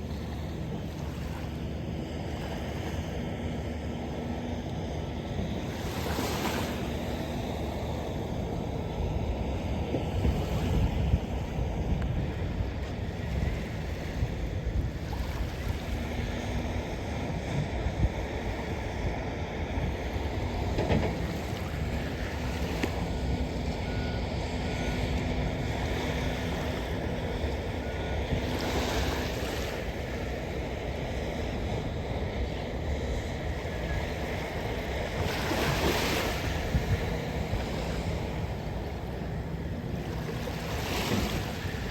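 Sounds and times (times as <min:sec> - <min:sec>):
surf washing on beach: 0:00.0 - 0:41.9
wind rumbling on microphone: 0:00.0 - 0:41.9.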